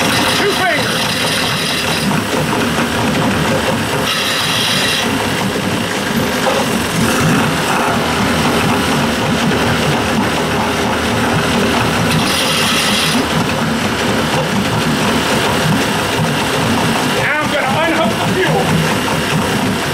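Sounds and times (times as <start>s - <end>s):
outboard motor running: 0.0s - 19.9s.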